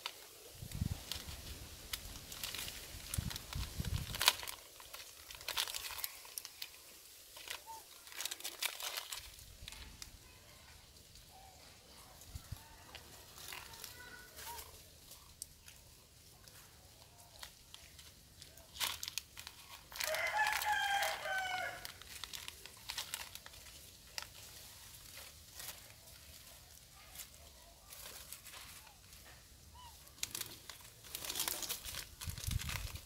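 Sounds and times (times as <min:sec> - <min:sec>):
foil packet crinkling: 0:00.0 - 0:33.0.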